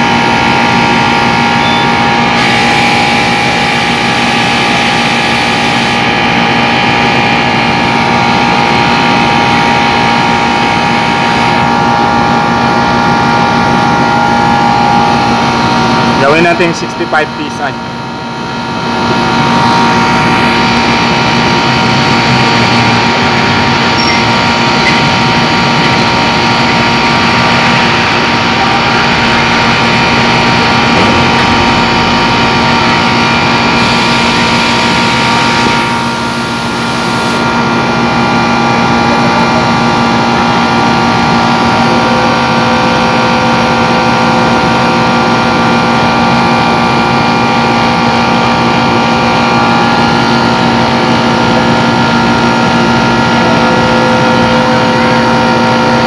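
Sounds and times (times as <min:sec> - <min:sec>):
air conditioner hum: 0:00.0 - 0:56.0.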